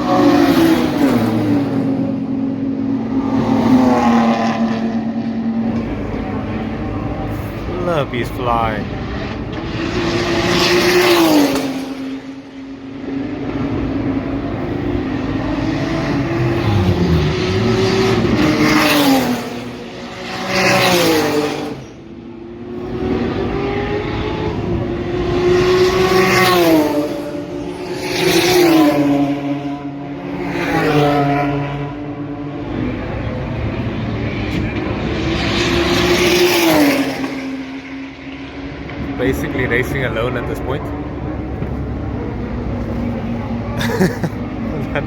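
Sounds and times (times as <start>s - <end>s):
race cars passing at speed: 0.0s - 45.0s.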